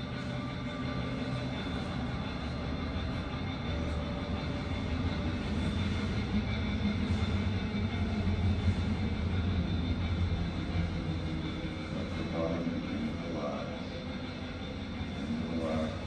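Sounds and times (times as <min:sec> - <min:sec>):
low drone with held tones: 0:00.0 - 0:16.0.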